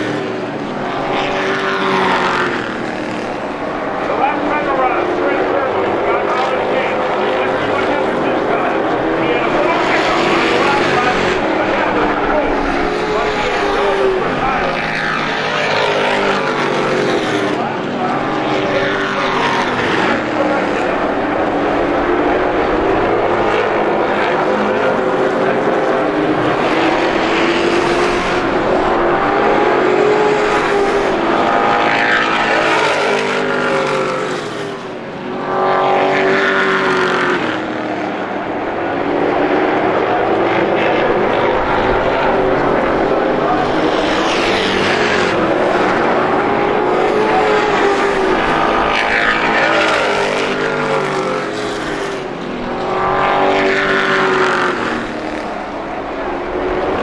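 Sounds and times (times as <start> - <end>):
race truck engines passing: 0.0 - 57.0.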